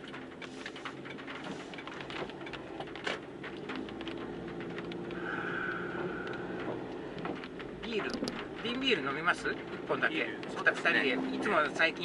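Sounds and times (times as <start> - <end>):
light ticks and taps: 0.0 - 11.9
car engine humming low: 0.0 - 12.0.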